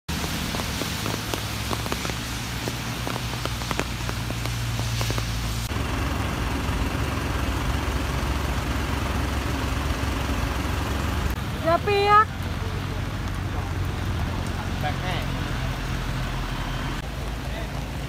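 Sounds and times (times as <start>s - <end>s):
raindrop ticks: 0.1s - 5.8s, 6.7s - 16.4s, 17.0s - 18.0s
engine and road hum: 0.1s - 18.0s
hiss of rain: 0.1s - 18.0s.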